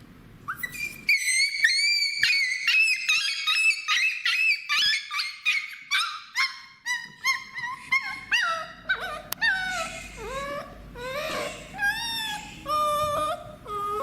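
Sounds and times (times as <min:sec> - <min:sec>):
dog yelping and whining: 0:00.4 - 0:14.0.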